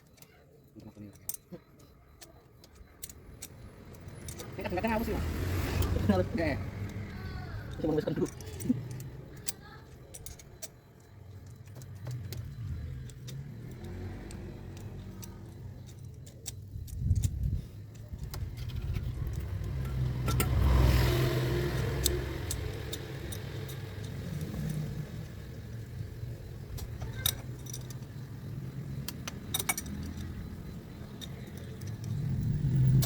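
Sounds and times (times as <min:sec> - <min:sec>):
car engine humming: 0:03.2 - 0:33.0
metallic tool clinks: 0:05.8 - 0:33.0.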